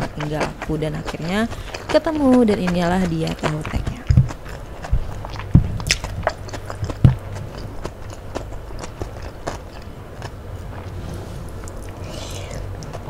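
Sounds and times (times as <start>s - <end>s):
chewing and wet mouth smacks: 0.0s - 13.0s.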